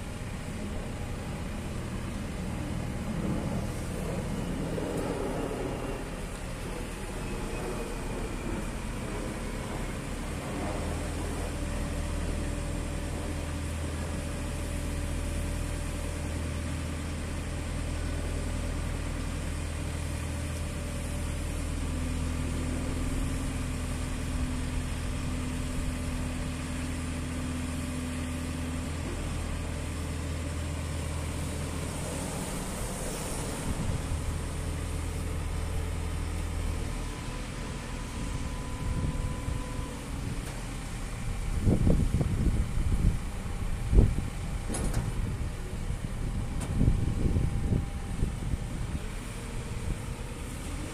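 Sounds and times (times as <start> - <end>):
high steady hydraulic tone: 0.0 - 17.1, 18.6 - 50.9
diesel engine running: 0.0 - 50.9.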